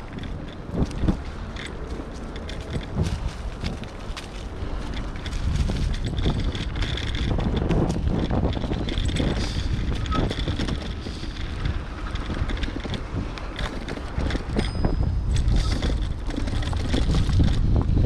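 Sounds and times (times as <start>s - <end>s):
bike rattles and clicks: 0.0s - 18.0s
bike tyres rolling on dirt: 0.0s - 18.0s
wind rumble on microphone: 0.0s - 18.0s.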